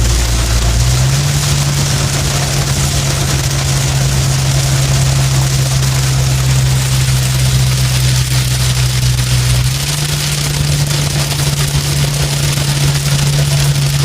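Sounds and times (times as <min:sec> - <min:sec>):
loud low hum: 0:00.0 - 0:14.0
steady rain hiss: 0:00.0 - 0:14.0.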